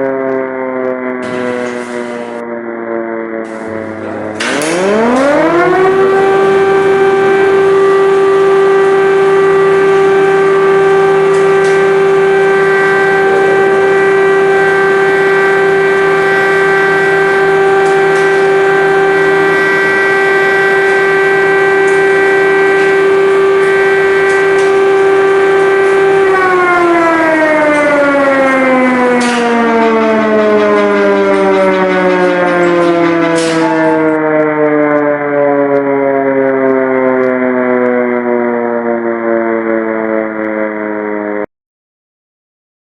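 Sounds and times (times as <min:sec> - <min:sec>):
air-raid siren: 0:00.0 - 0:41.5.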